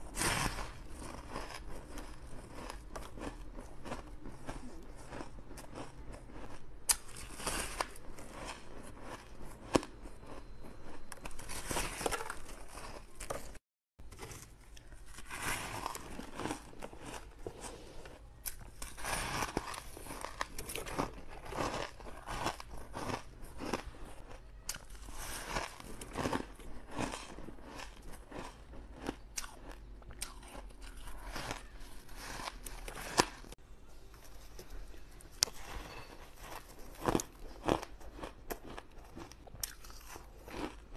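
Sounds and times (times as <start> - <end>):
ice crunching while chewed: 0.0 - 13.6, 14.2 - 33.6, 35.3 - 40.9.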